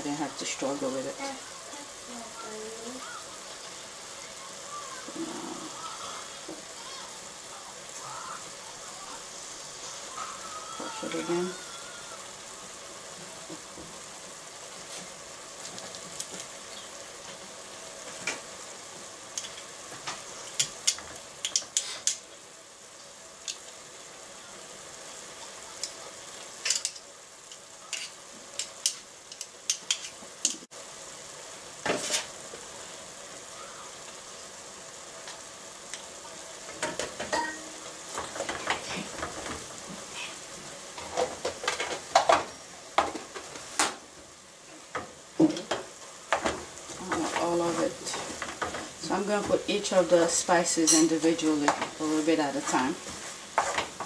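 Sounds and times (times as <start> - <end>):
meat sizzling in a pot: 0.0 - 54.0.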